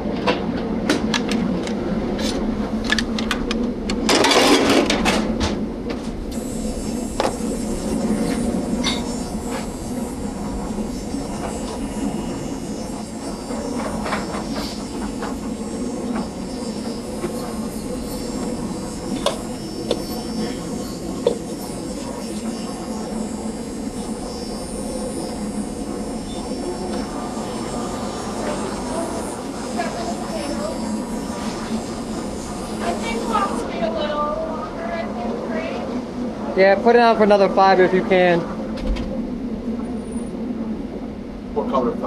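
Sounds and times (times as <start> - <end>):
hood fans droning: 0.0 - 42.0.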